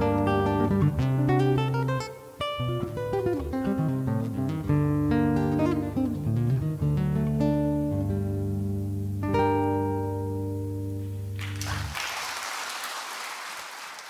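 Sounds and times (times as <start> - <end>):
fingerstyle classical guitar: 0.0 - 11.9.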